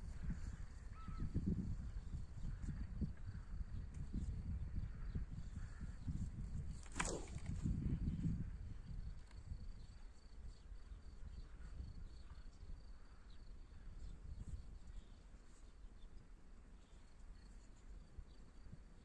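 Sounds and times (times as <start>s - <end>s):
wind noise on microphone: 0.0s - 15.6s.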